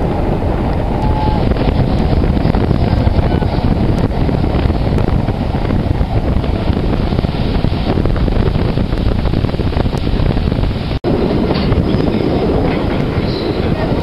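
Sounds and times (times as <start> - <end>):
train carriage rumbling on track: 0.0 - 14.0
wind buffeting microphone: 0.0 - 14.0.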